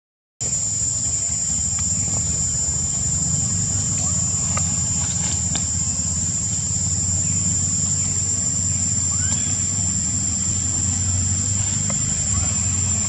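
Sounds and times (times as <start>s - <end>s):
high-pitched insect drone: 0.4s - 13.0s
low rumble: 1.3s - 13.0s.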